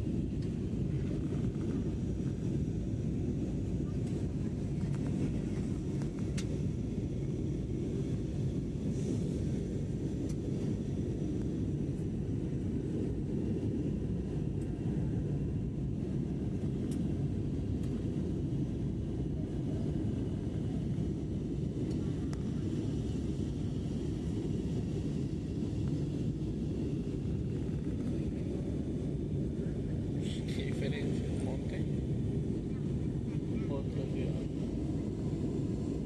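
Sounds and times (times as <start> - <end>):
airplane cabin engine drone: 0.0 - 36.0.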